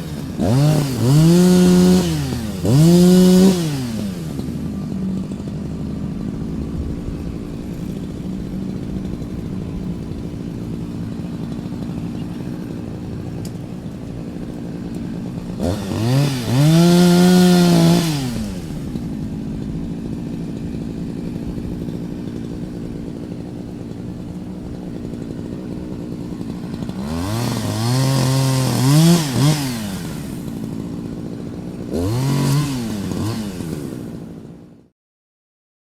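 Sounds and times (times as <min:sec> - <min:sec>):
chainsaw engine idling and revving: 0:00.0 - 0:34.9.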